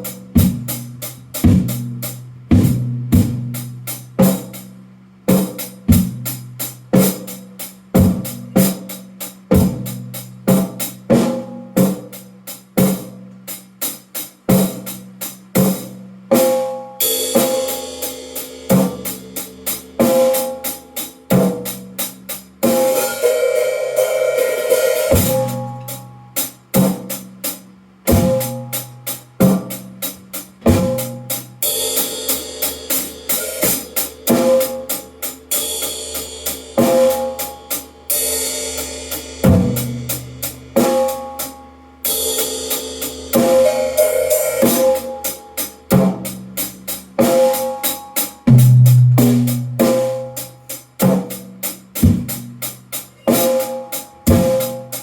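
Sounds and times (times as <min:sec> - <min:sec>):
drum strikes: 0:00.0 - 0:55.0
cymbal wash: 0:03.2 - 0:55.0.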